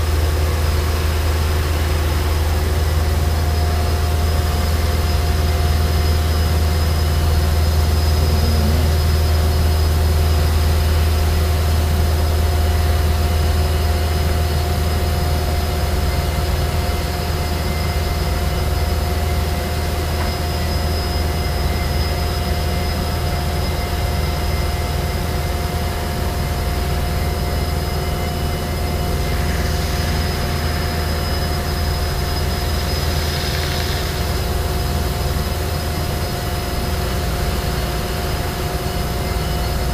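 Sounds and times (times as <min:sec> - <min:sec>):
wire saw machine drone: 0:00.0 - 0:39.9
machine whining tones: 0:01.6 - 0:39.9.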